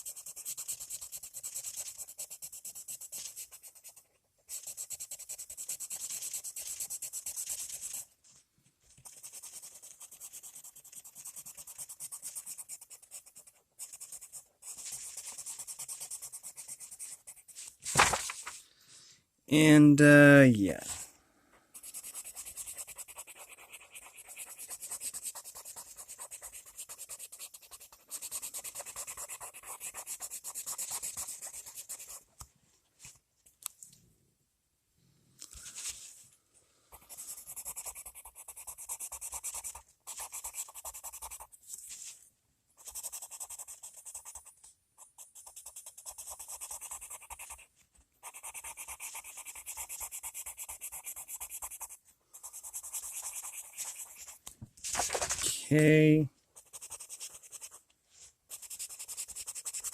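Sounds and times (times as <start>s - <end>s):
pencil scratching on paper: 0.0s - 18.6s, 21.7s - 32.4s, 36.9s - 55.5s, 56.5s - 59.9s.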